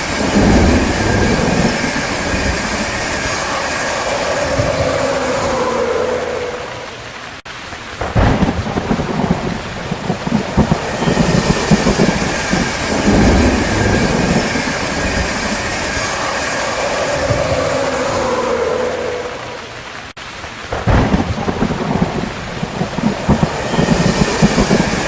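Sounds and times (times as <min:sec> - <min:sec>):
heavy rain: 0:00.0 - 0:25.0
rolling thunder rumble: 0:00.0 - 0:25.0.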